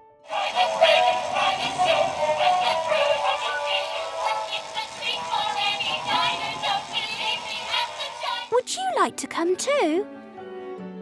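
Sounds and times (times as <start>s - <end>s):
cheerful toy song with beat: 0.3s - 10.0s.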